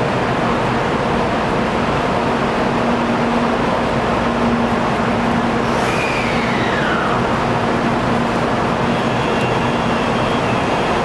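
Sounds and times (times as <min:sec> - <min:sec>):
train rushing noise: 0:00.0 - 0:11.0.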